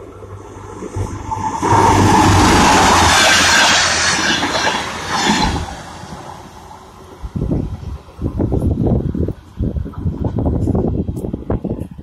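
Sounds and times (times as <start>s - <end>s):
train wheels rushing on rails: 0.0s - 12.0s.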